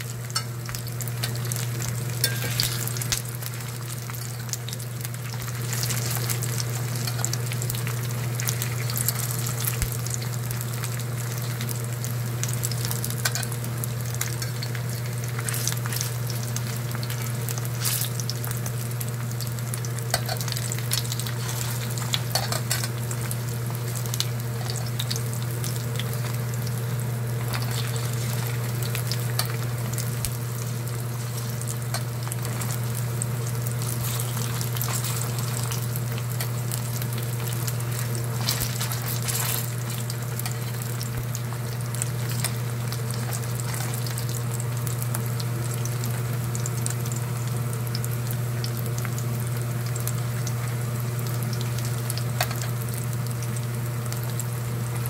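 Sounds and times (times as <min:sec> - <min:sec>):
meat sizzling in hot oil: 0:00.0 - 0:55.0
steady low hum: 0:00.0 - 0:55.0.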